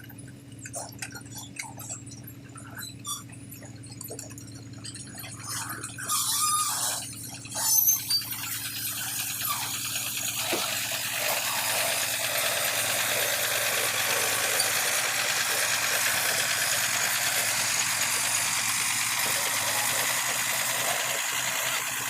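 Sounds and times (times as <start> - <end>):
diesel engine running: 0.0 - 22.0
engine knocks: 0.0 - 22.0.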